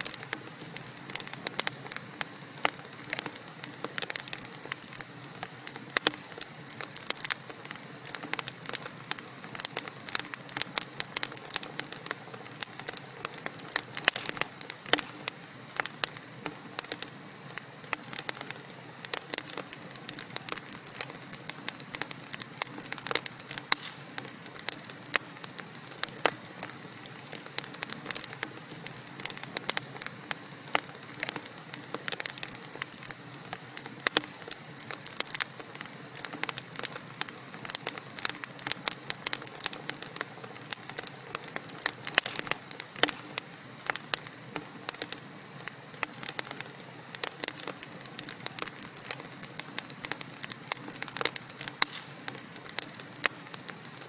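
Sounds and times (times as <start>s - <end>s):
fire hiss: 0.0s - 54.0s
logs crackling and popping: 0.0s - 54.0s.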